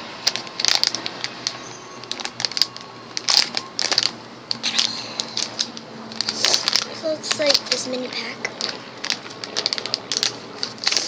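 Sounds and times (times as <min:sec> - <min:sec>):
plastic packet crinkling: 0:00.1 - 0:11.0.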